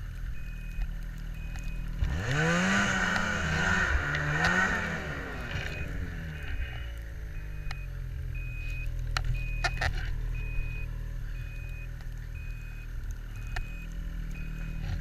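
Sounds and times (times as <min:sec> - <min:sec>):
snowmobile engine running: 0:00.0 - 0:15.0
reverse warning beeps: 0:00.3 - 0:15.0.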